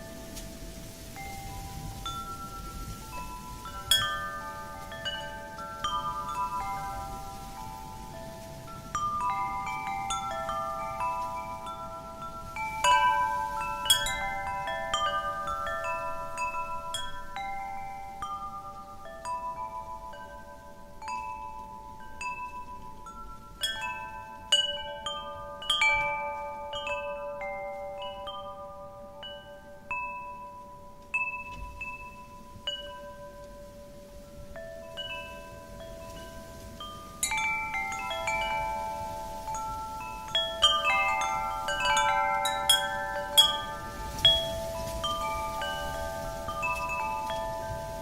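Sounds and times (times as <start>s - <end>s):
faint wind: 0.0s - 48.0s
metal wind chimes ringing: 0.0s - 48.0s.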